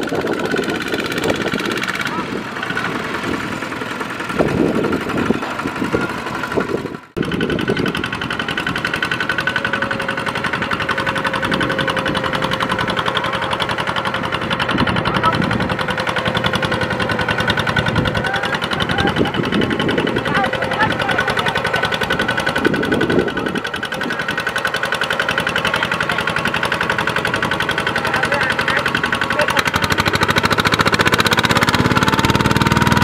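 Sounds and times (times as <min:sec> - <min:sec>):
diesel engine chugging: 0:00.0 - 0:33.0.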